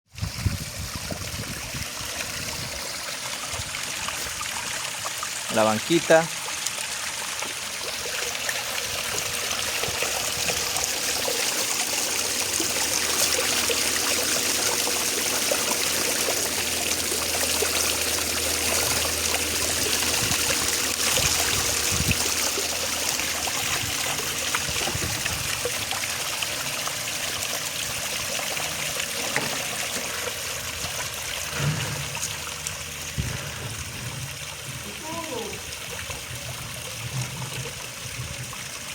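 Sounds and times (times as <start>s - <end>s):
water trickling down waterfall: 0.1s - 38.9s.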